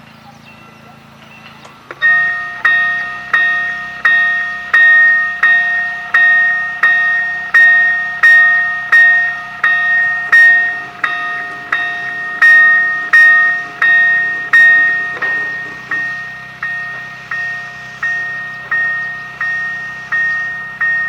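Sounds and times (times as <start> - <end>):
level-crossing warning bell: 0.1 - 21.0.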